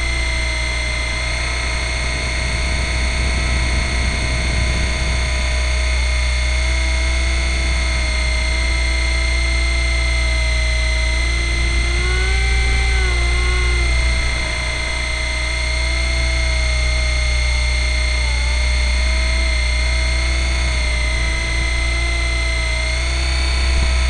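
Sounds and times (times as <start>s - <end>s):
model helicopter motor whine: 0.0s - 24.0s.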